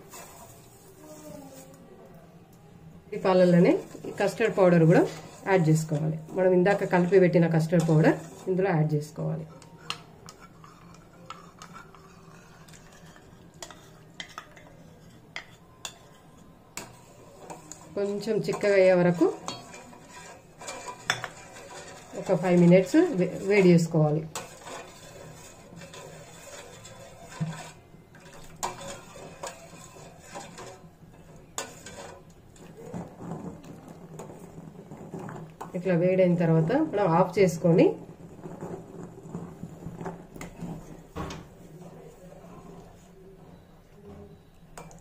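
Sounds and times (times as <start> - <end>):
spoon scraping ceramic bowl: 3.2 - 41.1.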